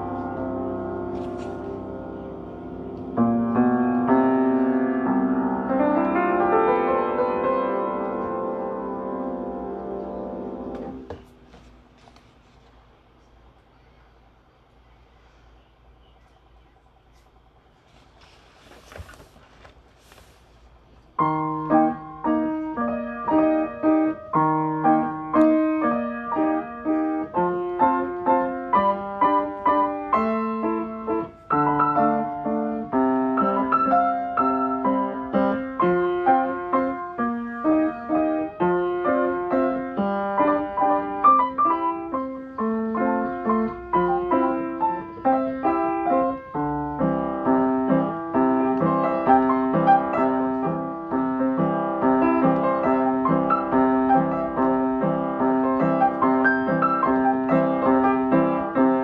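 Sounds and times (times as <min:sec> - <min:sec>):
piano music: 0:00.0 - 0:11.6, 0:21.2 - 0:59.0.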